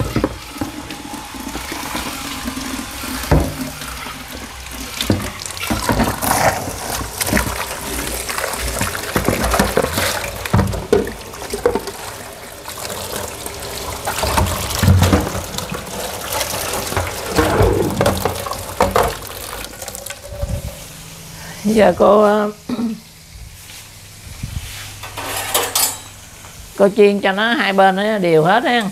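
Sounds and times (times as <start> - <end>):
chicken sizzling in hot oil: 0.0 - 26.9.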